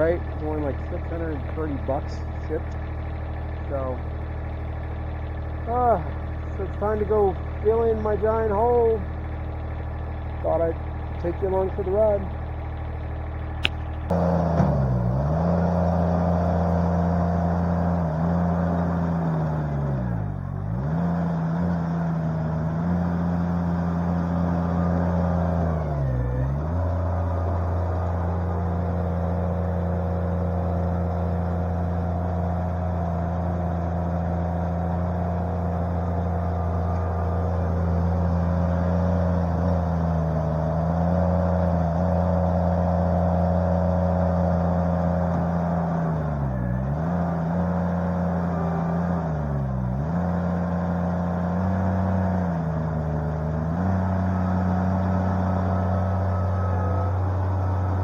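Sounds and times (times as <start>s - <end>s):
skid loader engine running: 0.0s - 58.0s.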